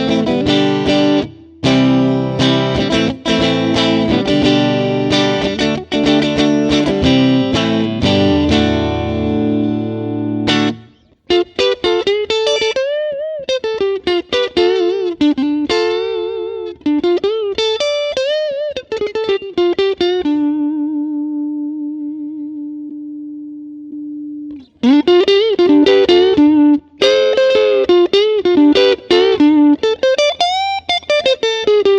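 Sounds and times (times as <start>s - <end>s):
clean electric guitar lead: 0.0s - 31.9s.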